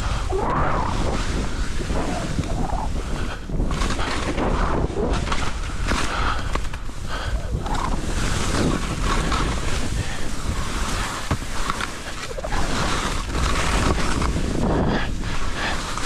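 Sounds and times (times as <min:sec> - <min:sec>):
wind buffeting microphone: 0:00.0 - 0:15.8
skis swishing over snow: 0:00.0 - 0:16.0.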